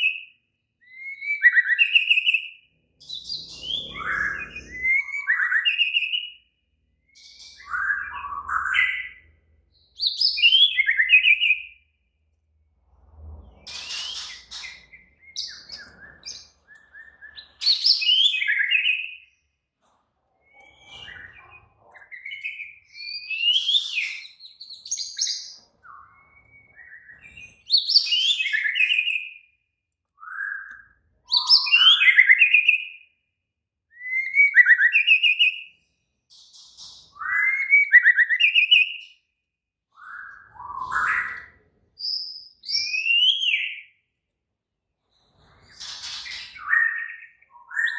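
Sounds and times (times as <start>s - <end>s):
bird singing trills and whistles: 0.0s - 11.8s, 13.7s - 19.4s, 20.4s - 29.6s, 30.2s - 33.1s, 33.9s - 39.2s, 39.9s - 44.0s, 45.6s - 47.9s.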